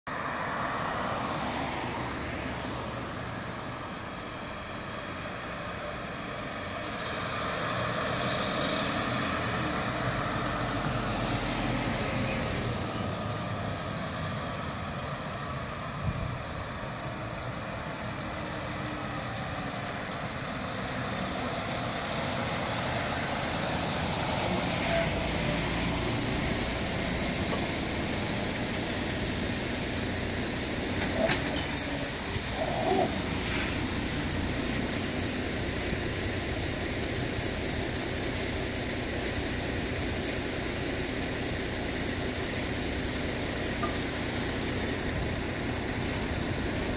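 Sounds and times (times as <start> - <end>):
truck diesel engine passing: 0.1 - 46.9.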